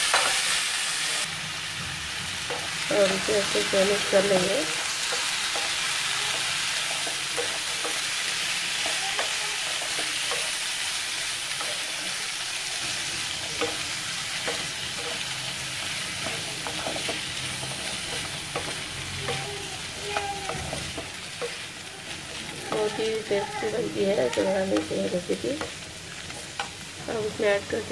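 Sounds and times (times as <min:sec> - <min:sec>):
chickpeas sizzling in oil: 0:00.0 - 0:27.9.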